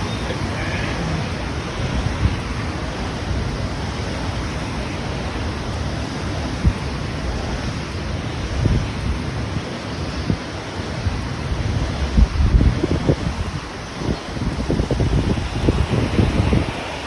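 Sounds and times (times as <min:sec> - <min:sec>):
steady rushing noise: 0:00.0 - 0:17.0
wind buffeting microphone: 0:00.0 - 0:17.0.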